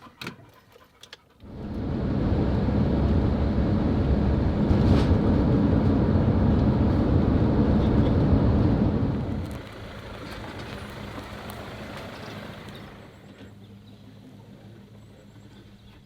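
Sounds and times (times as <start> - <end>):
vehicle rumble with road noise: 1.4 - 16.0.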